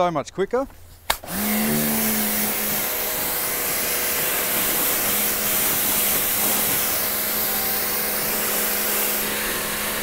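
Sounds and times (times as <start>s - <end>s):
pressure washer jet hissing: 1.1s - 10.0s.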